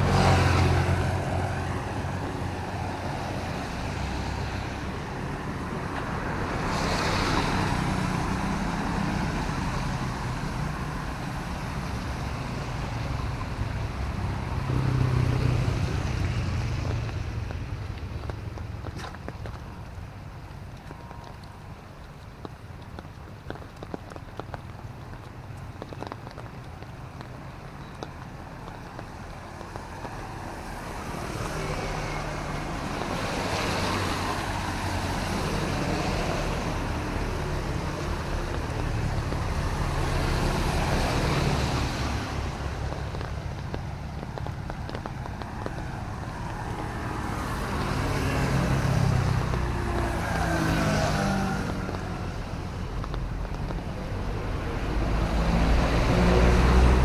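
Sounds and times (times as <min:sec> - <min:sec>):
vehicles passing on wet road: 0:00.0 - 0:57.0.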